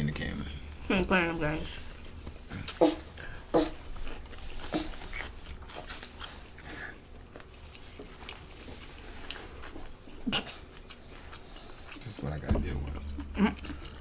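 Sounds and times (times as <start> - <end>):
chewing and biting food: 2.2 - 14.0.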